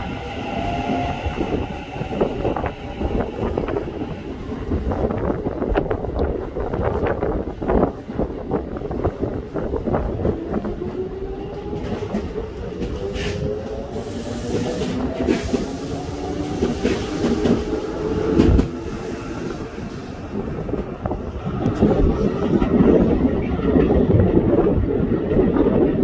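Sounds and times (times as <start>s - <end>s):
wheels clacking on rails: 5.1s - 26.0s.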